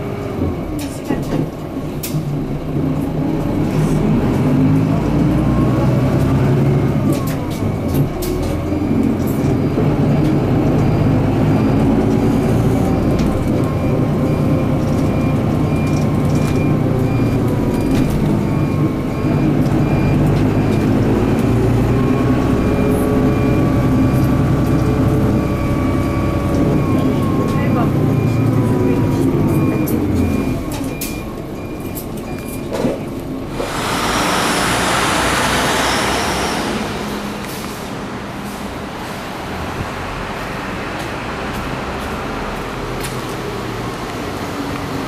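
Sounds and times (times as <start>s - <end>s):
bus diesel engine drone: 0.0s - 45.0s
road noise: 0.0s - 45.0s.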